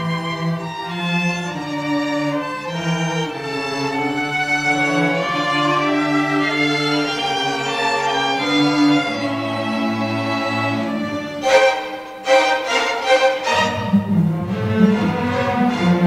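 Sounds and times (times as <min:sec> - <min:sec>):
string orchestra playing: 0:00.0 - 0:16.0.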